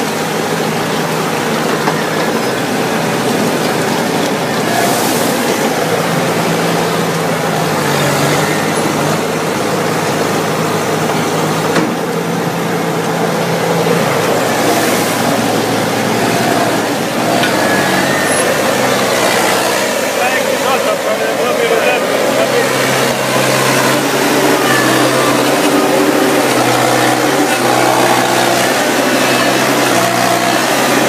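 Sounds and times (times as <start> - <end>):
harvester machinery droning: 0.0 - 31.0.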